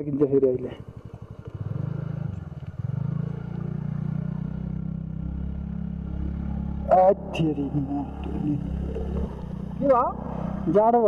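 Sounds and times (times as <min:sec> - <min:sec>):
scooter engine labouring: 0:00.0 - 0:11.0.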